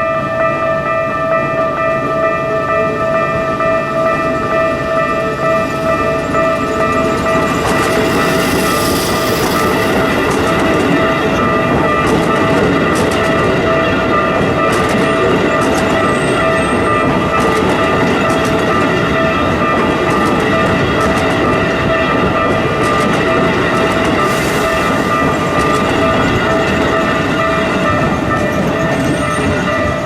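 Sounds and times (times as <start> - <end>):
crossing alarm ringing: 0.0 - 30.0
train wheels clattering over rails: 4.4 - 30.0.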